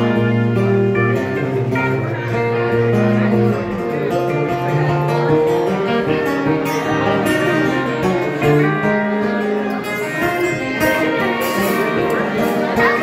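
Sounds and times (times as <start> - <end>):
acoustic guitar strumming: 0.0 - 13.0
fiddle playing held notes: 0.0 - 13.0.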